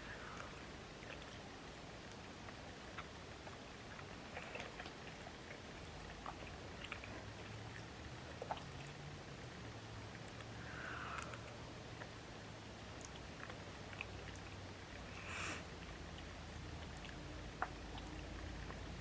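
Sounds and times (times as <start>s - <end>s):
low steady hum: 0.0s - 19.0s
quiet chewing: 0.0s - 19.0s.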